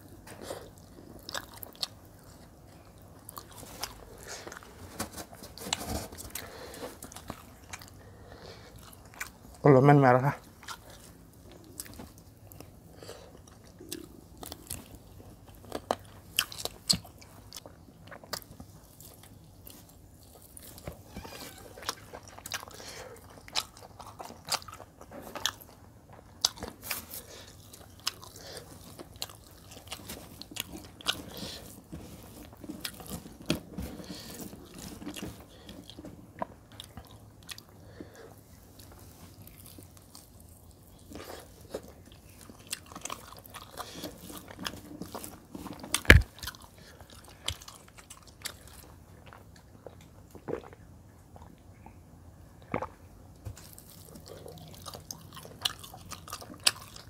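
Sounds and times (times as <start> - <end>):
biting and chewing: 0.0 - 9.6, 10.3 - 51.9, 52.6 - 57.0.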